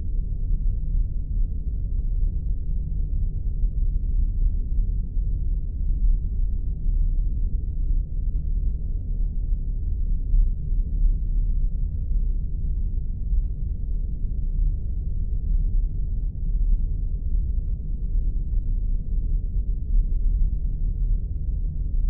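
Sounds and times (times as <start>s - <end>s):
deep spaceship engine rumble: 0.0s - 22.0s.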